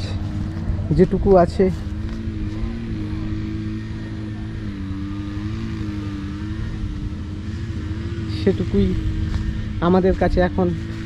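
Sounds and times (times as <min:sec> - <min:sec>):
engine-like drone: 0:00.0 - 0:11.0.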